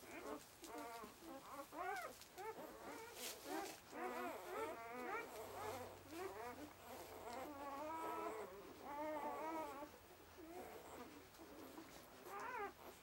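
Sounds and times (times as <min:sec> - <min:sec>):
puppies whining and squeaking: 0:00.0 - 0:13.0.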